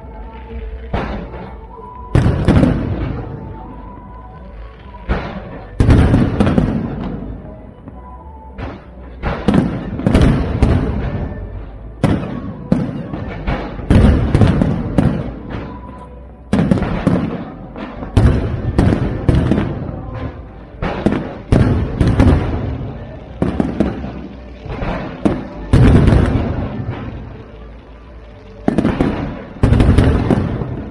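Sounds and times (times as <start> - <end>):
fireworks booming: 0.6 - 8.0, 8.6 - 30.9.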